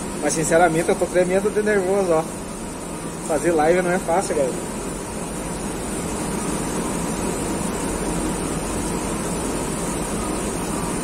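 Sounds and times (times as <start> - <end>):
steady rumble and hiss: 0.0 - 11.0.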